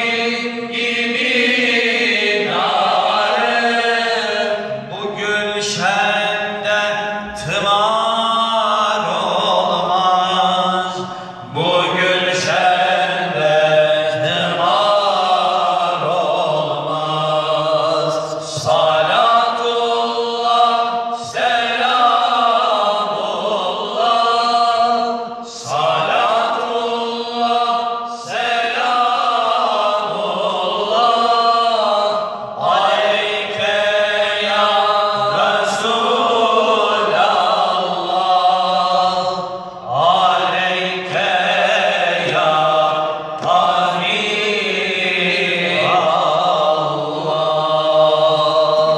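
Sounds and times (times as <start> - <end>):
lead voice on microphone: 0.0 - 48.9
men singing a cappella hymn: 0.0 - 48.9.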